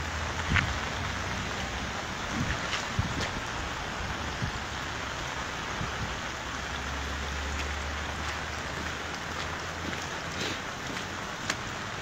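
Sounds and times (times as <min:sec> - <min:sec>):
heavy rain on wet pavement: 0:00.0 - 0:12.0.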